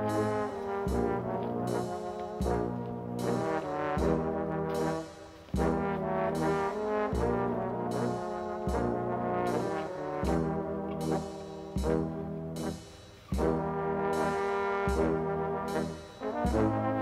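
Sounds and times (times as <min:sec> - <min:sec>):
slow brass chords: 0:00.0 - 0:17.0.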